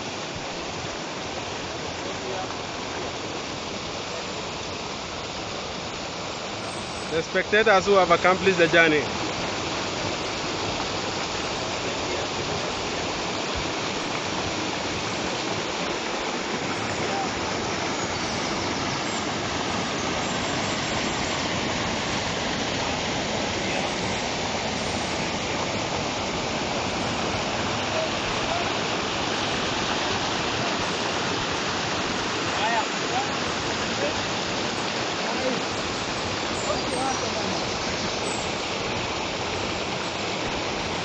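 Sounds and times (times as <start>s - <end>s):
river water rushing over rocks: 0.0s - 41.0s.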